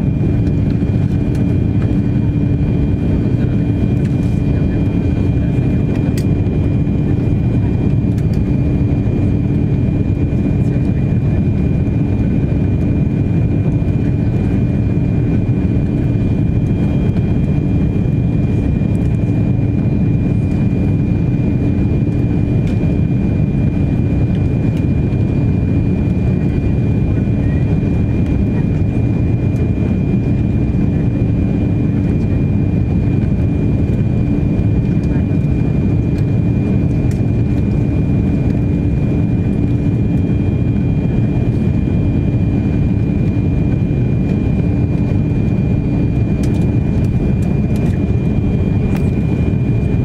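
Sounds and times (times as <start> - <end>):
airplane cabin roar: 0.0 - 50.0.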